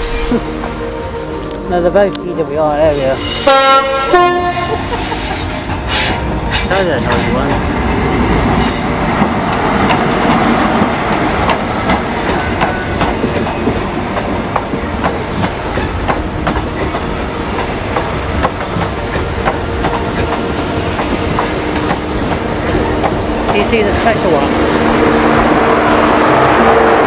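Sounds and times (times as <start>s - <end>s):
train passing rumble: 0.0s - 27.0s.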